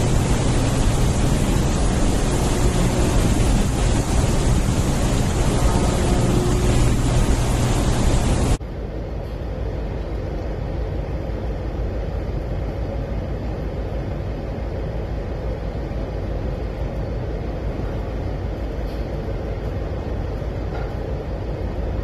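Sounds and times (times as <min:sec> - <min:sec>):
ship low rumble and rushing: 0:00.0 - 0:22.0.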